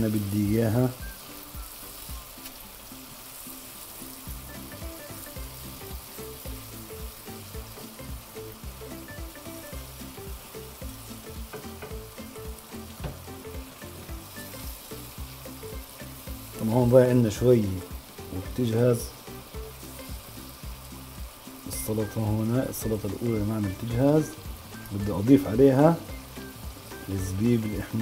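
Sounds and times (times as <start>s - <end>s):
shrimp sizzling in a frying pan: 0.0s - 28.0s.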